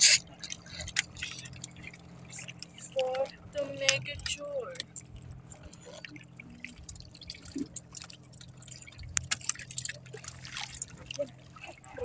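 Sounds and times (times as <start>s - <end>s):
water lapping against boat: 0.0s - 12.0s
water splashes and drips: 0.0s - 12.0s.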